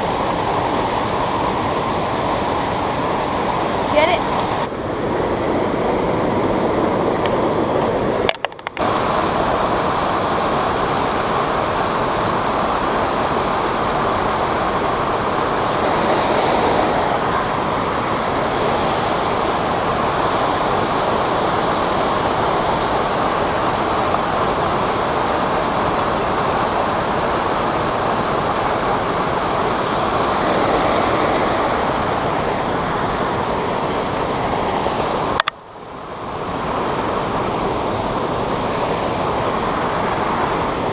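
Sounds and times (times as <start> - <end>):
creek rushing over rocks: 0.0 - 40.9.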